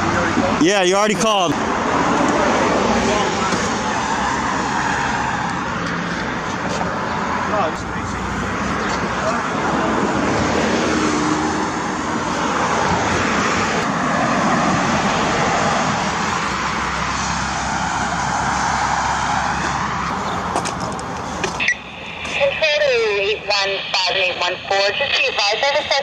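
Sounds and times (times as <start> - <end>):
vehicles passing on busy street: 0.0 - 26.0.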